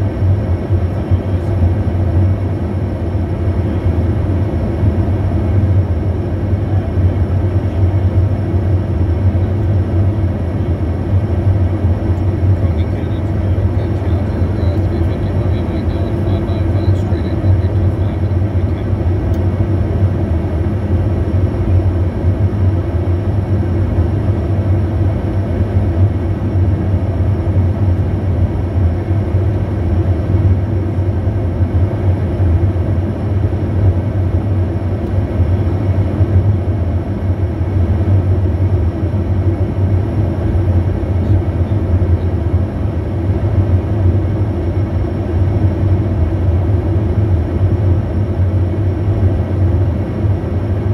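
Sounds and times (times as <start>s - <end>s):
jet engines inside cabin: 0.0s - 50.9s.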